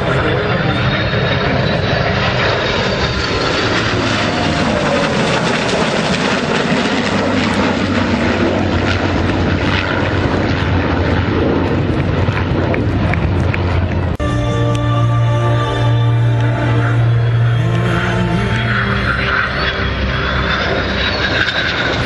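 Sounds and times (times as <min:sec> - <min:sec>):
jet engine roaring in flight: 0:00.0 - 0:14.2, 0:15.2 - 0:22.0.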